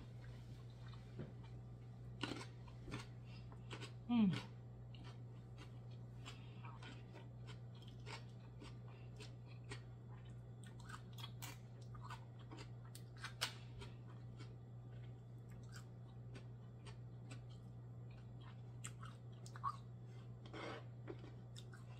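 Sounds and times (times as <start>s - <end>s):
steady low hum: 0.0s - 21.9s
chewing mussels: 0.2s - 21.9s.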